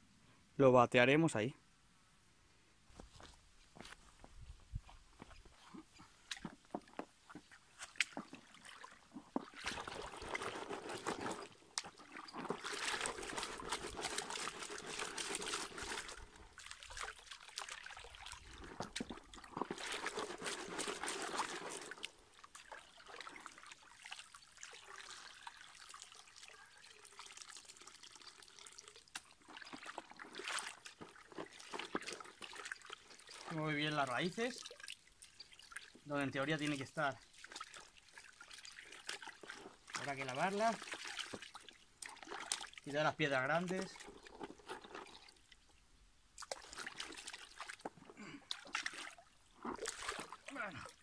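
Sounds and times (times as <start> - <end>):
water pouring and trickling: 7.4 - 45.7, 46.4 - 51.0.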